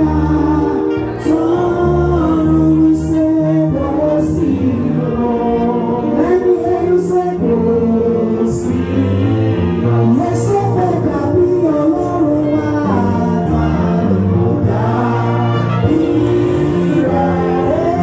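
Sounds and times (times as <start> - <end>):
group singing along: 0.0 - 18.0.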